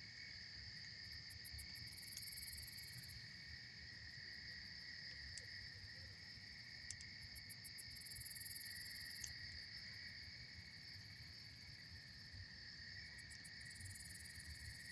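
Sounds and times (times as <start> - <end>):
night insects trilling: 0.2 - 14.9.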